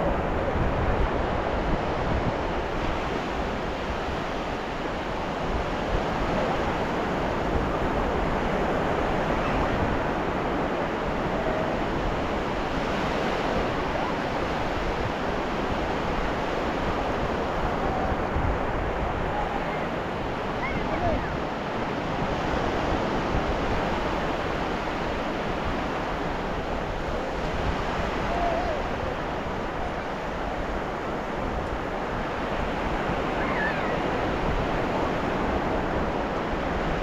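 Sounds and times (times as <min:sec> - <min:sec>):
ocean surf washing onto beach: 0:00.0 - 0:37.0.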